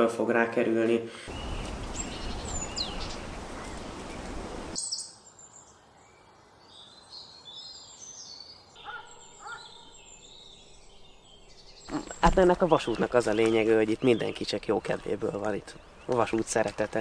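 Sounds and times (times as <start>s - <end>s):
steady outdoor noise: 0.0s - 7.4s, 8.4s - 17.0s
sweeping bird call: 1.2s - 16.1s
birds chirping and singing: 1.2s - 17.0s.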